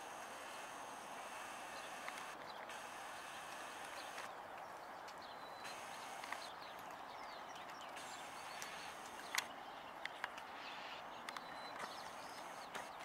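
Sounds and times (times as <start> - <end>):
bird chirping: 0.0 - 13.0
steady background noise: 0.0 - 13.0.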